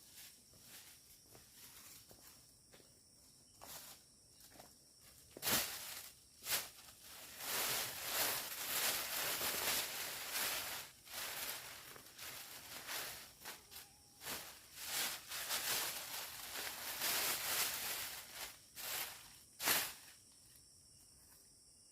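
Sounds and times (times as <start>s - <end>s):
footsteps through undergrowth: 0.0s - 2.8s, 3.5s - 20.2s
faint insect hum: 0.0s - 21.9s.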